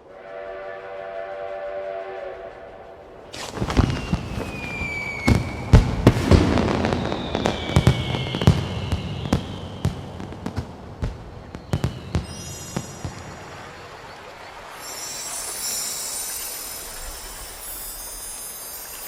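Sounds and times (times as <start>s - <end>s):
whistling rockets: 0.1s - 19.0s
fireworks bangs and crackles: 3.3s - 19.0s.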